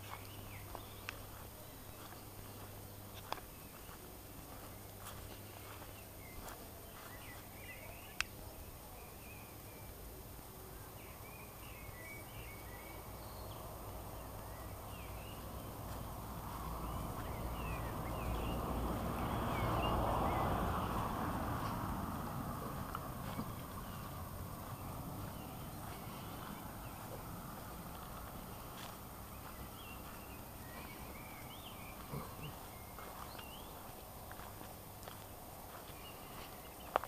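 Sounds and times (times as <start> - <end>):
broad rush of noise: 0.0 - 37.0
small birds chirping: 0.0 - 37.0.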